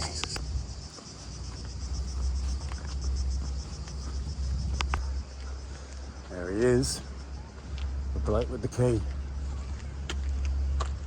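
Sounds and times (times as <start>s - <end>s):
cicadas droning: 0.0s - 11.0s
steady low rumble: 0.0s - 11.0s.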